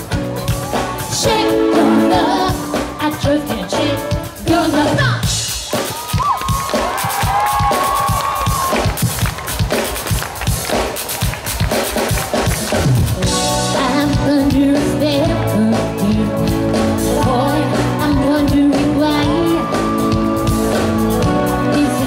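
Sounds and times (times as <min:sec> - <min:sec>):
drums: 0:00.0 - 0:22.0
live pop band playing: 0:00.0 - 0:22.0.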